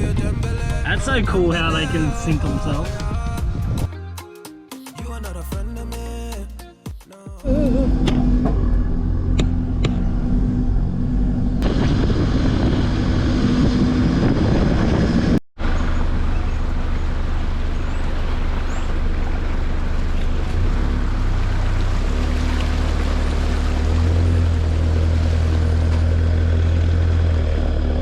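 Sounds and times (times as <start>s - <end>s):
vehicle engine and road rumble: 0.0s - 4.0s, 7.5s - 28.0s.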